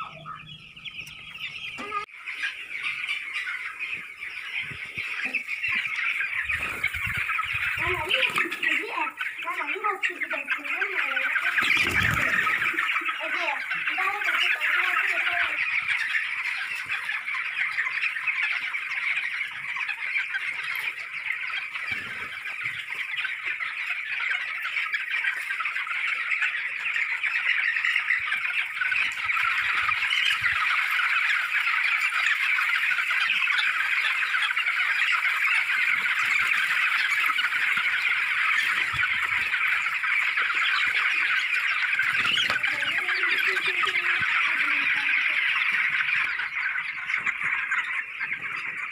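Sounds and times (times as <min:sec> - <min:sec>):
chicks cheeping: 0:00.0 - 0:48.9.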